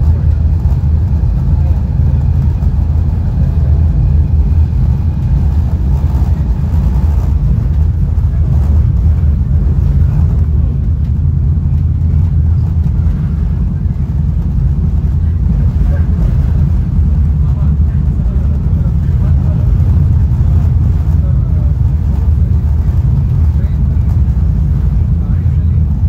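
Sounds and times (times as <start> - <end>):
low rumble of moving train: 0.0 - 26.0.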